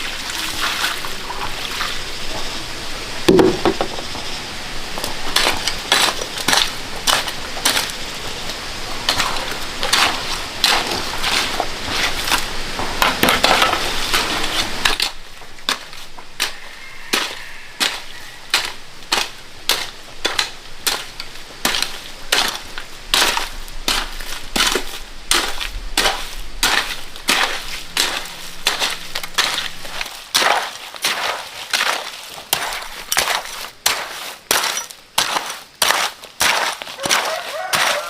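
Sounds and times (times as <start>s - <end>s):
hand tool crunching and scraping: 5.3s - 8.0s, 9.0s - 38.0s.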